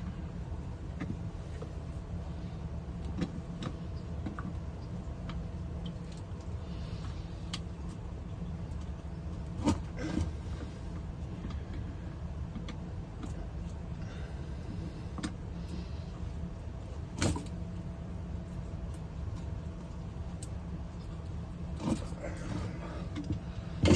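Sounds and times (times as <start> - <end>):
low motor hum: 0.0 - 23.9.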